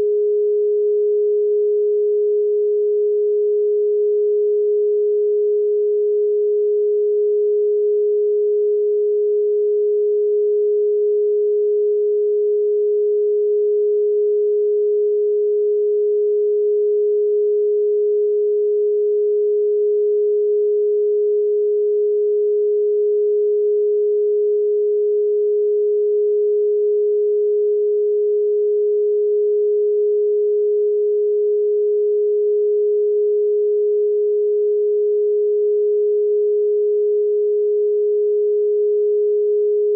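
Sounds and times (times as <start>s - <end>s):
steady electronic sine tone: 0.0s - 39.9s.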